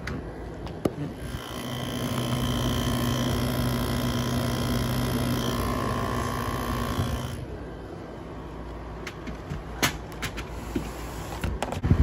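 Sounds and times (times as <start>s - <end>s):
high steady whine: 0.0s - 10.0s
air conditioner fan rush: 0.0s - 12.0s.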